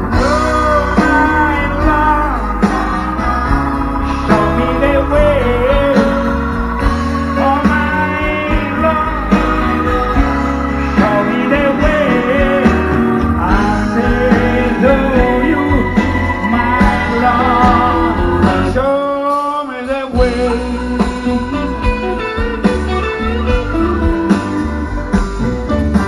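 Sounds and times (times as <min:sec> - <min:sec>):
wavering lead melody: 0:00.0 - 0:19.4, 0:20.1 - 0:26.0
vocals: 0:00.0 - 0:22.9
bass line: 0:00.0 - 0:26.0
live blues band: 0:00.0 - 0:26.0.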